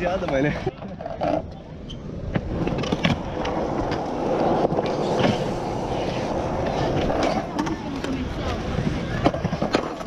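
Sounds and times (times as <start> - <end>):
skateboard wheels rolling on concrete: 0.0 - 10.0.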